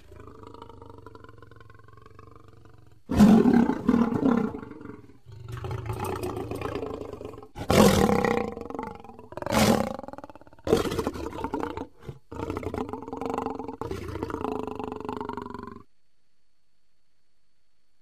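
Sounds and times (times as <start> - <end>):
lion roaring: 0.0 - 15.8.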